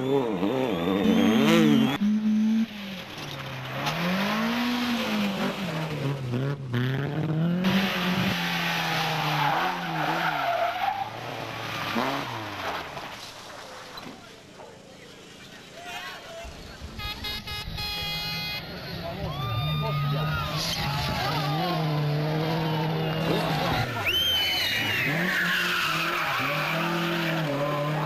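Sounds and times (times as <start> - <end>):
rally car engines revving: 0.0 - 15.8, 18.2 - 28.0
tyre and road noise: 0.0 - 28.0.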